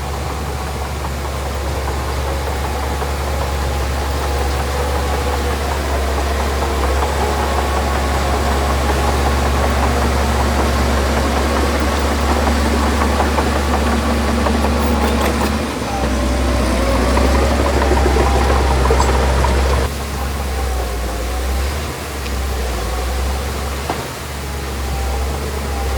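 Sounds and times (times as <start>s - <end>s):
heavy machinery diesel engine: 0.0s - 25.9s.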